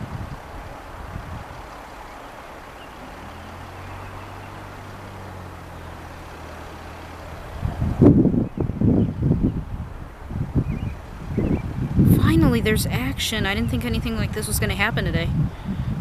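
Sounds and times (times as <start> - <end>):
light aircraft engine droning: 0.0 - 16.0
wind buffeting microphone: 0.0 - 16.0.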